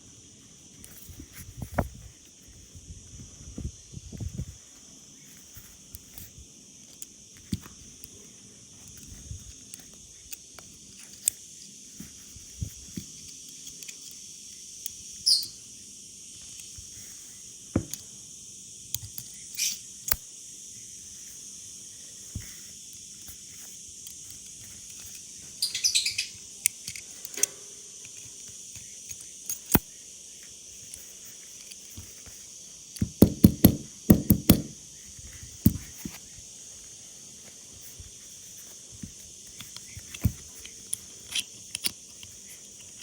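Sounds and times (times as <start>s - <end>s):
high-pitched insect chorus: 0.0s - 43.0s.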